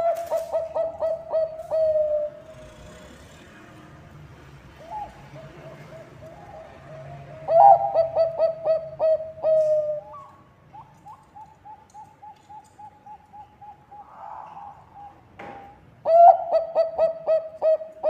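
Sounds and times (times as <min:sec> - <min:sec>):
dove cooing: 0:00.0 - 0:03.0, 0:04.8 - 0:18.0.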